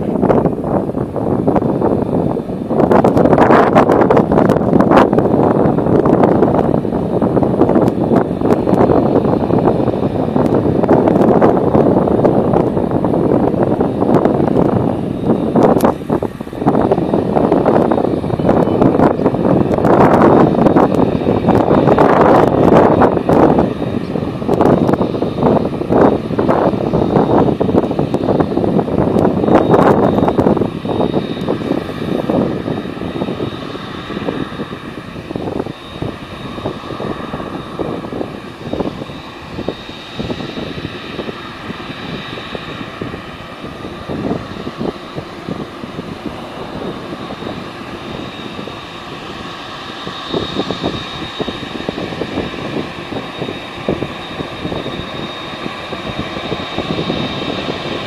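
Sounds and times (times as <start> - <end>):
jet engines whining and rumbling: 0.0 - 58.0.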